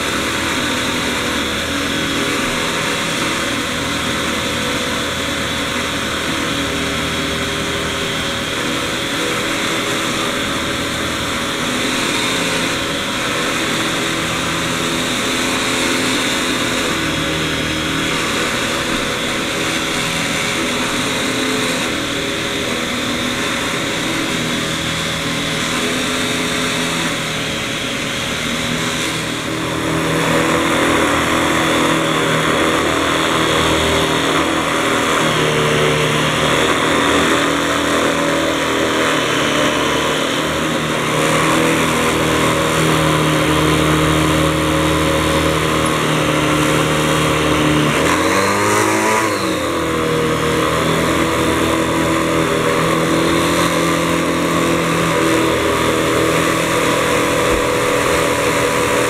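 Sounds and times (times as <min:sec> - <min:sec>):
nozzle pushed over carpet: 0:00.0 - 0:59.0
vacuum cleaner running: 0:00.0 - 0:59.0.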